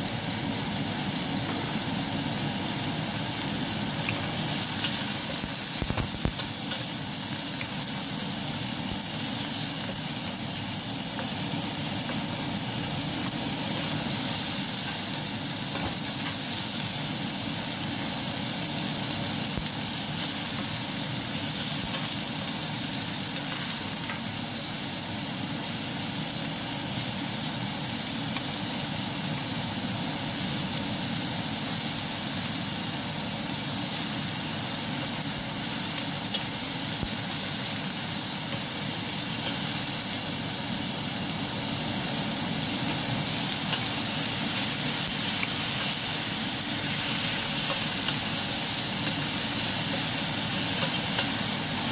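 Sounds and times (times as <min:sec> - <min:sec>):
chicken sizzling in a frying pan: 0:00.0 - 0:51.9.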